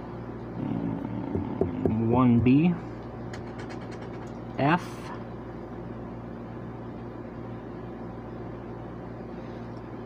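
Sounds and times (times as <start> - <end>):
machine hum with hiss: 0.0 - 10.0.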